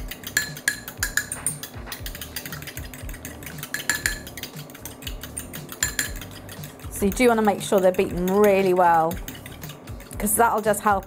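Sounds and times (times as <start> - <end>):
fork clinking against bowl: 0.0 - 10.6.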